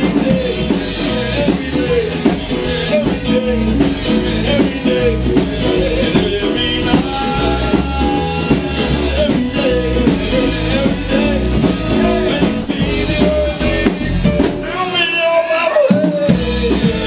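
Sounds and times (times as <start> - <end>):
drum kit steady beat: 0.0 - 17.0
electric and acoustic guitars: 0.0 - 17.0
person singing: 0.0 - 17.0.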